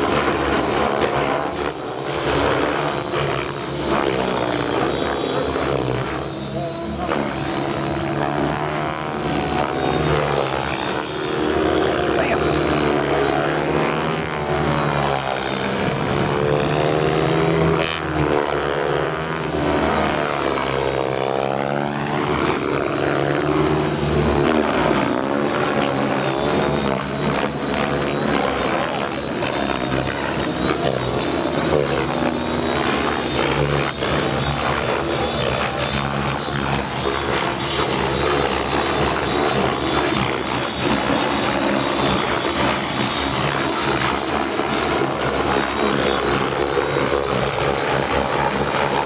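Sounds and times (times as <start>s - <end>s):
model helicopter rotor whine: 0.0s - 49.0s.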